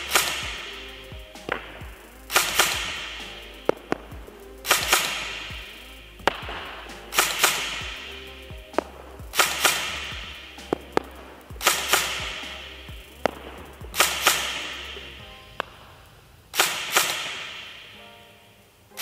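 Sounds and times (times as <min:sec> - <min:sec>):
airsoft rifle shots echoing: 0:00.0 - 0:15.0, 0:16.5 - 0:18.0.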